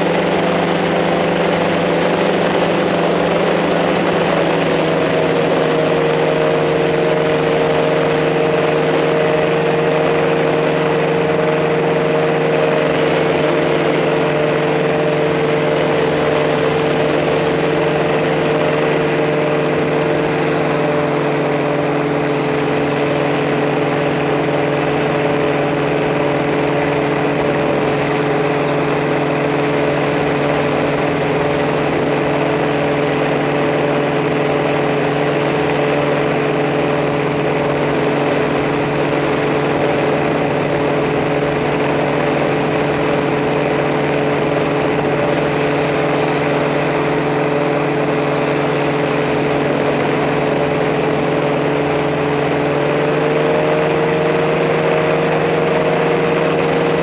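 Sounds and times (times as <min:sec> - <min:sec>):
drone propellers humming: 0:00.0 - 0:57.0.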